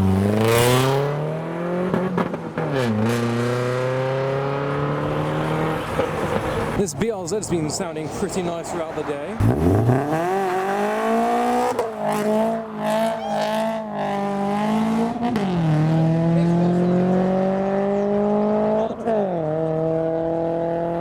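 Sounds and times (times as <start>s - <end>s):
car engine accelerating: 0.0s - 6.8s, 8.9s - 21.0s.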